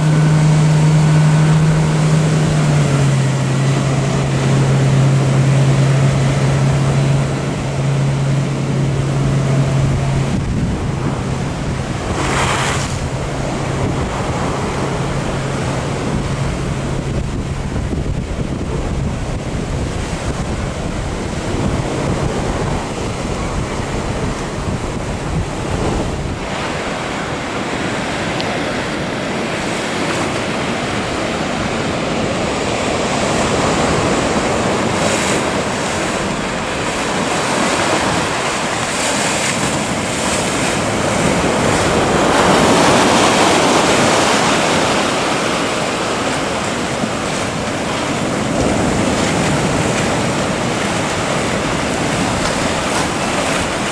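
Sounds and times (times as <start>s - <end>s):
outboard motor humming: 0.0s - 53.9s
rough surf breaking: 0.0s - 53.9s
wind buffeting microphone: 0.0s - 53.9s.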